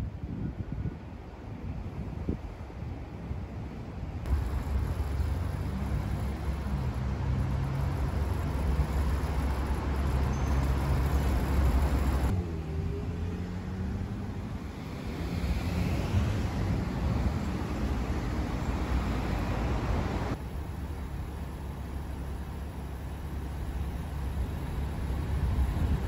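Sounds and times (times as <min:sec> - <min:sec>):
engine hum and tyre noise: 0:00.1 - 0:26.0
vehicles passing: 0:04.2 - 0:26.0.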